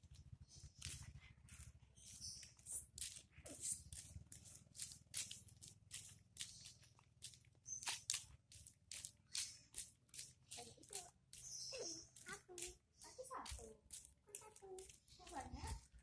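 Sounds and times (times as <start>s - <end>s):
footsteps scuffing on brick paving: 0.7s - 16.0s.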